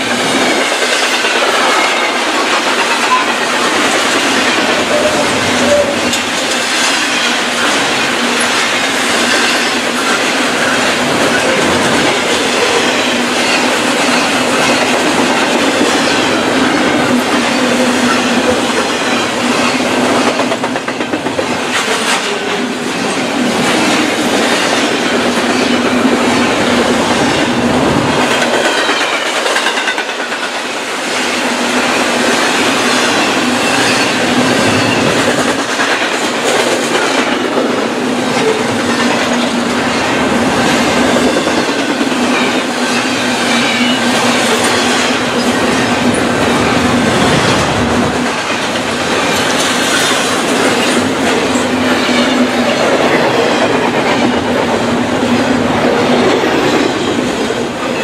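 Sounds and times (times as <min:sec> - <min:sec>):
freight train wheels rattling on rails: 0:00.0 - 0:58.0.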